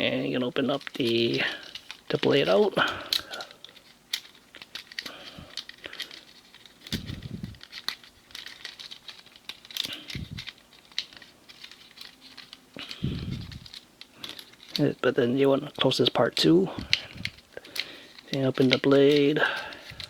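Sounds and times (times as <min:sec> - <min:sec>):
plastic toy clicking and rubbing: 0:00.0 - 0:20.0.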